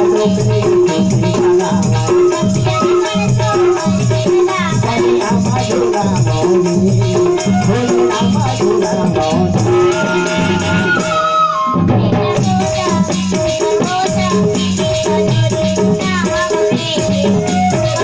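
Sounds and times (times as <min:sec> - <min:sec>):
hand drum rhythm: 0:00.0 - 0:18.0
harmonium melody: 0:00.0 - 0:18.0
jingling percussion: 0:00.0 - 0:18.0.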